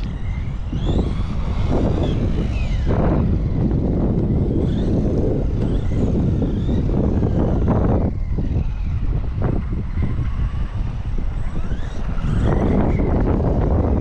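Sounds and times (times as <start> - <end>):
electric motor whine: 0.0 - 14.0
tyre and wind noise: 0.0 - 14.0.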